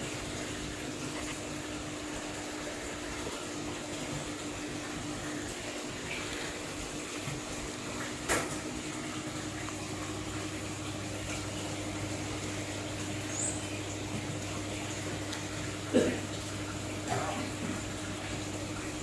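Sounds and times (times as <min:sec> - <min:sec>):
fish tank water noise: 0:00.0 - 0:19.0.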